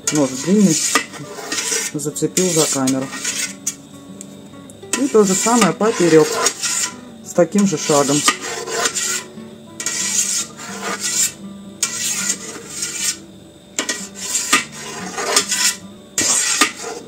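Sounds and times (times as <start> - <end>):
knife scraping metal pot: 0.0 - 3.8, 5.0 - 7.0, 7.6 - 13.2, 13.8 - 17.0.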